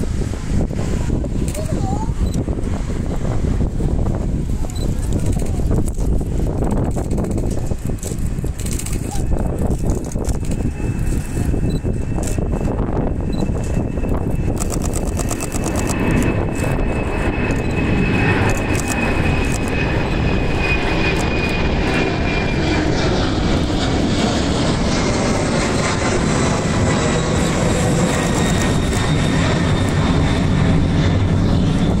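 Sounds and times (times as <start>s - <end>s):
jet engine rumble and whine: 0.0s - 32.0s.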